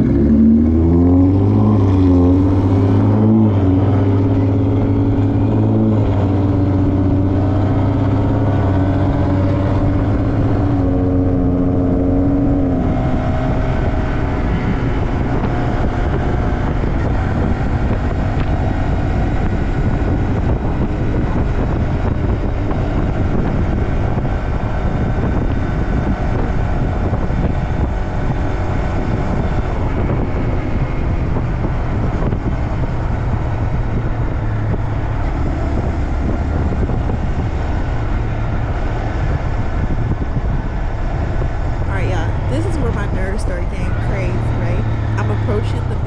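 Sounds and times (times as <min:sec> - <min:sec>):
motorcycle engine cruising: 0:00.0 - 0:46.0
road noise: 0:00.0 - 0:46.0
wind rushing on microphone: 0:00.0 - 0:46.0.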